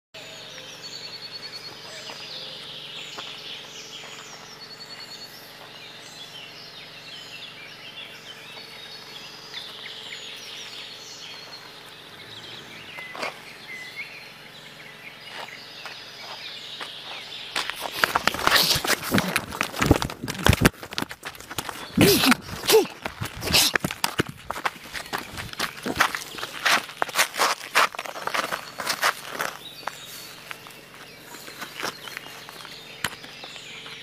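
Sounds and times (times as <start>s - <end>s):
birds singing and calling: 0.2s - 34.0s.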